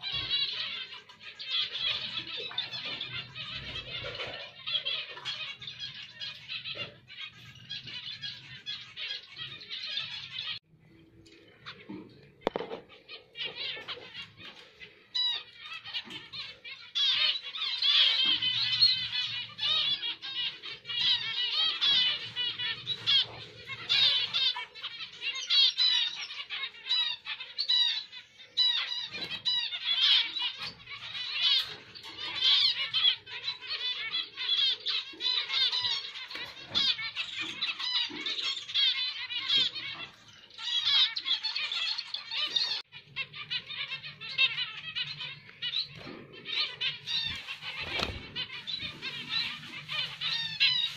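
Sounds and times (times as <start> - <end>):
finches chirping: 0.0 - 50.9.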